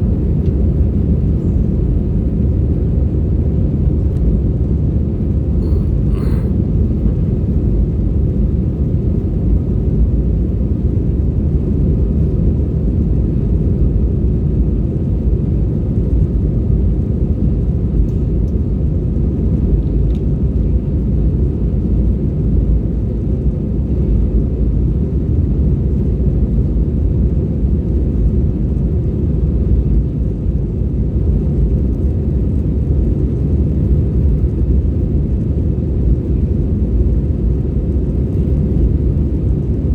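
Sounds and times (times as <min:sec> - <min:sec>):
jet airliner cabin rumble: 0:00.0 - 0:39.9.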